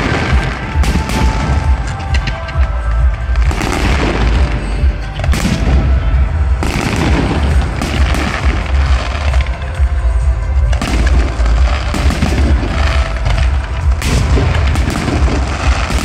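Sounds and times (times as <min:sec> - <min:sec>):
fireworks booming and crackling: 0:00.0 - 0:16.0
heavy low rumble: 0:00.0 - 0:16.0
music playing: 0:00.0 - 0:16.0.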